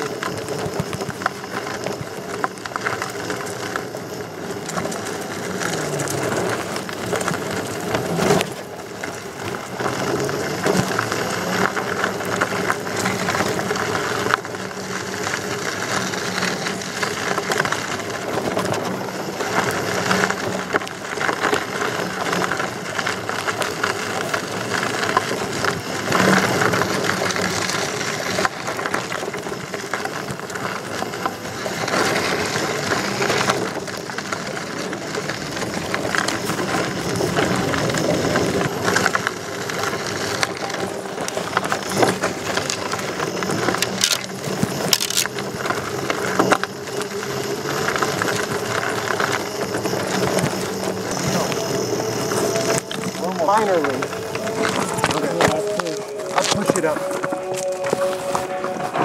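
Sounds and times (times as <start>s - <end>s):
tyre crunching over gravel: 0.0s - 59.0s.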